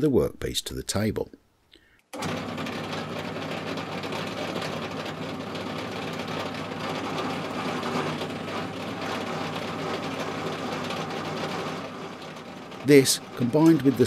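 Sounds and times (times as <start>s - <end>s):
pillar drill cutting steel: 2.2s - 14.0s.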